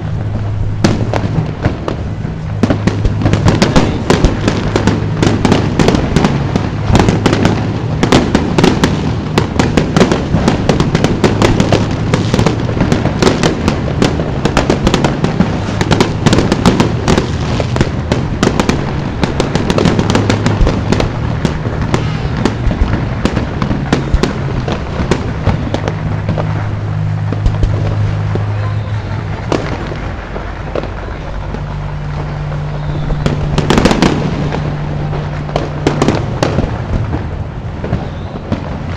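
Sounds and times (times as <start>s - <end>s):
fireworks bangs and crackling: 0.0s - 38.9s
low steady hum: 0.0s - 38.9s.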